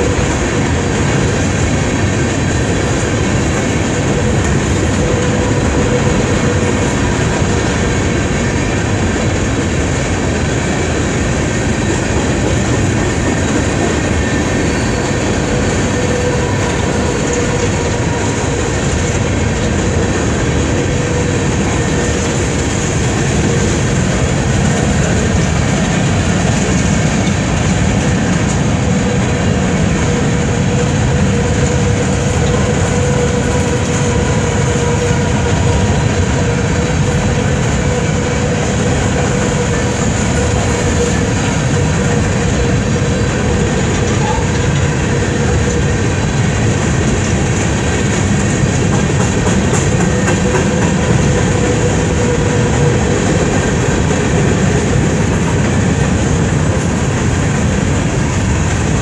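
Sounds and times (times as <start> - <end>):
freight train wheels on rail: 0.0 - 59.0.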